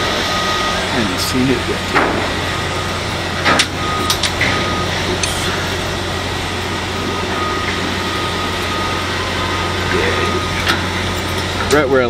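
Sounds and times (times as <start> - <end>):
generator engine hum: 0.0 - 12.0.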